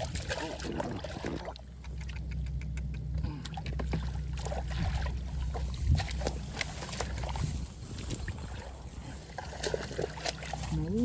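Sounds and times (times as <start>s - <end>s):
steady low hum: 0.0s - 11.0s
water splashing and sloshing: 0.0s - 11.0s.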